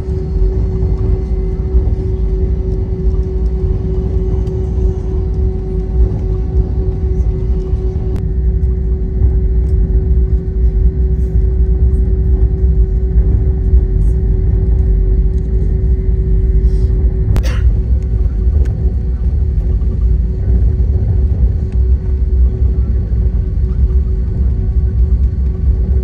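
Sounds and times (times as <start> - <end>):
aircraft cabin rumble: 0.0 - 26.0
constant hum: 0.0 - 26.0.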